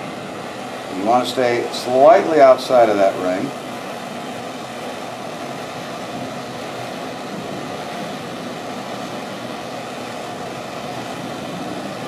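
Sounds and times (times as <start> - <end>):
mechanical hum and rush: 0.0 - 12.0.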